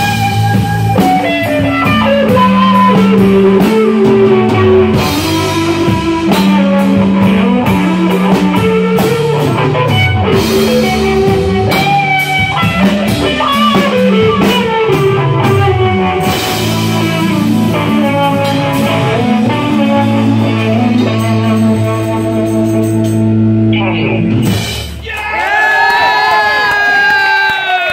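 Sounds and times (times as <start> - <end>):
electric guitar bending notes: 0.0 - 25.0
bass guitar: 0.0 - 26.4
drum kit: 0.0 - 27.9.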